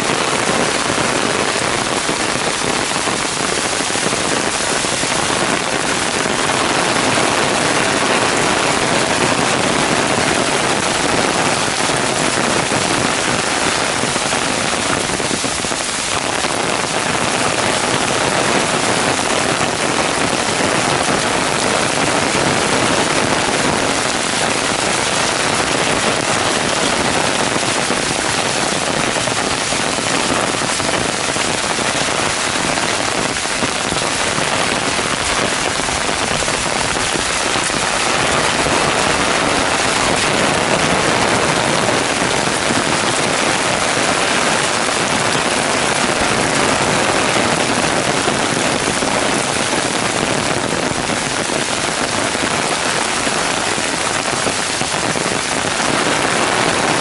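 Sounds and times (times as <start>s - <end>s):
heavy rain hissing: 0.0s - 57.0s
raindrops on umbrella: 0.0s - 57.0s.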